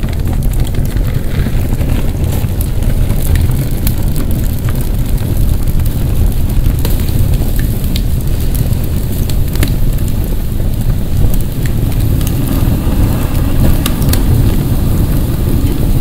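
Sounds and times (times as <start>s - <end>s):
charcoal crackling and popping: 0.0s - 16.0s
low fire rumble: 0.0s - 16.0s.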